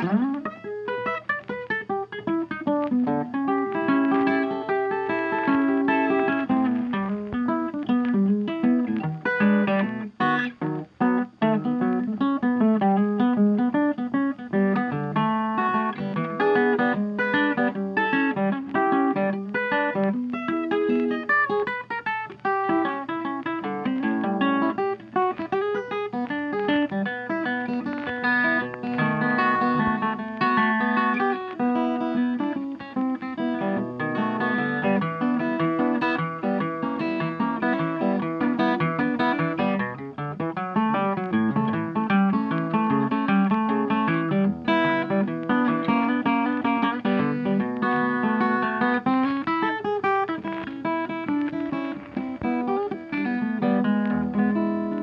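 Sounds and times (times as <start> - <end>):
plucked and strummed guitar: 0.0 - 55.0.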